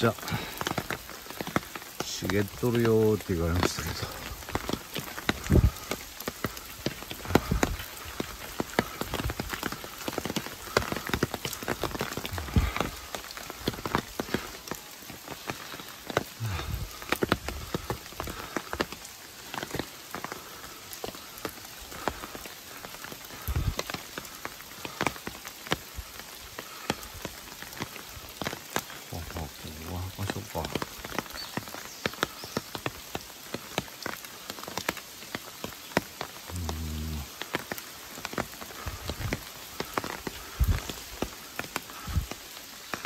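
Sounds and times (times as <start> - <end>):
footsteps on wet leaves: 0.0 - 43.0
rain pattering on leaves: 0.0 - 43.0.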